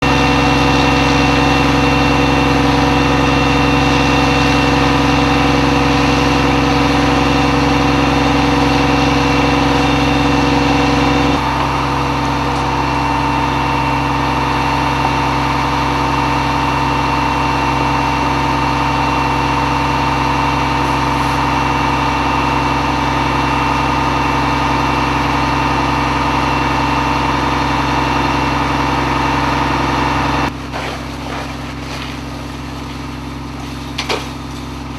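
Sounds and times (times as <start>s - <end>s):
high whine: 0.0s - 30.5s
heavy diesel engine running: 0.0s - 34.9s.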